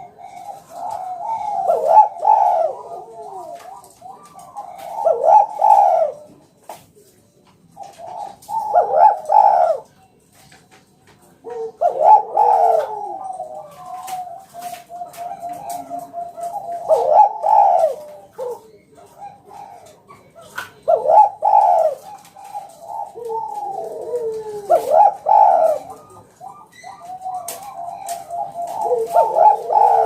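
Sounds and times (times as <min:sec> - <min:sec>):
dove cooing: 0:00.0 - 0:06.8, 0:07.6 - 0:10.4, 0:11.2 - 0:30.0.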